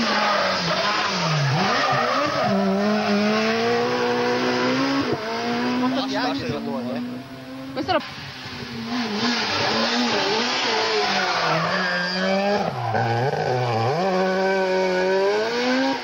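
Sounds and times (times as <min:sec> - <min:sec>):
rally car engine revving: 0:00.0 - 0:16.0
tyre and road noise: 0:00.0 - 0:16.0.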